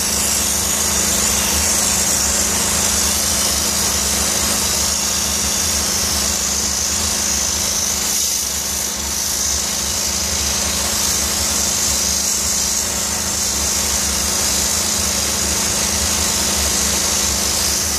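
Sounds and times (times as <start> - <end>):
steam hissing onto stone: 0.0 - 17.9.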